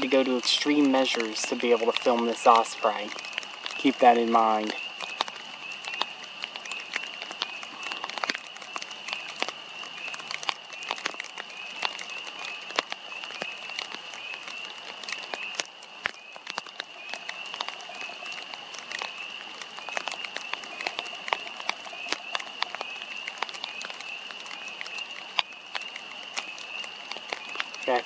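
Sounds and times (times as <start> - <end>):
clicks and crackles: 0.0 - 28.0
high chirping calls: 0.0 - 28.0.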